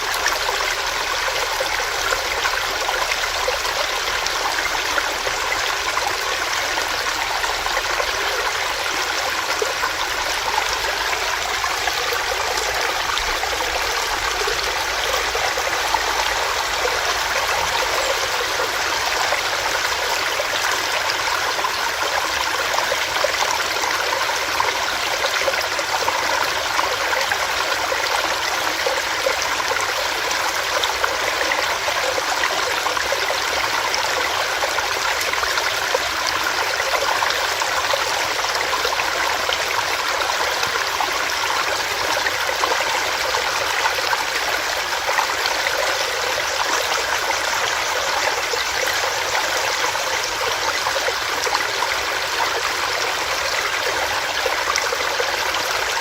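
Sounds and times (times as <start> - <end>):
stream water over rocks: 0.0 - 56.0.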